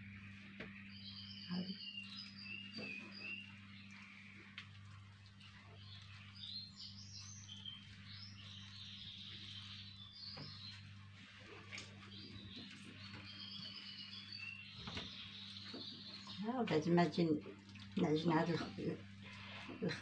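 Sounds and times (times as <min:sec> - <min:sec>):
low electrical hum: 0:00.0 - 0:20.0
small birds chirping: 0:00.0 - 0:20.0.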